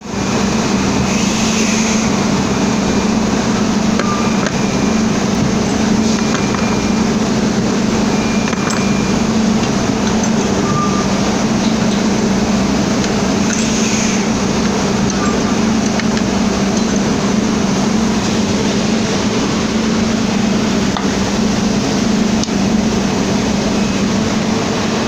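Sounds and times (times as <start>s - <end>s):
milling machine humming: 0.0s - 25.0s.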